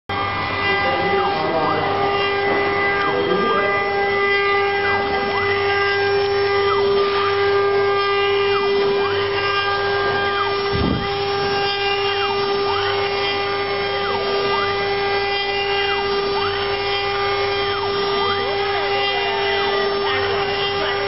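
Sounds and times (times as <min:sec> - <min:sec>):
motor tones rising and falling: 0:00.1 - 0:21.0
router spindle high-pitched whine: 0:00.1 - 0:21.0.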